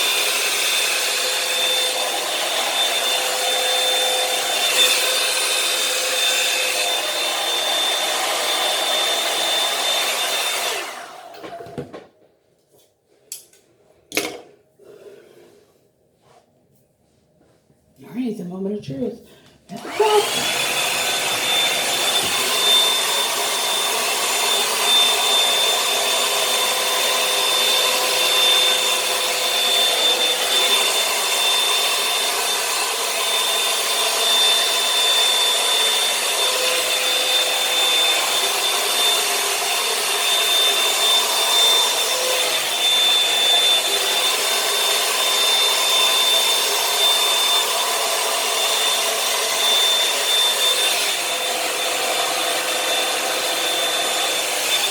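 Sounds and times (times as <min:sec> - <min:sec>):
hair dryer running: 0:00.0 - 0:12.2, 0:19.7 - 0:54.9.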